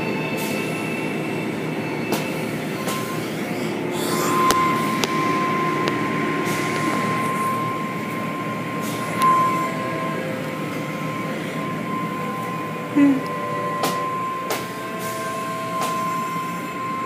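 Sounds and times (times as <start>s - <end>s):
car wash machinery rumble: 0.0s - 17.0s
steady mechanical whine: 0.0s - 17.0s.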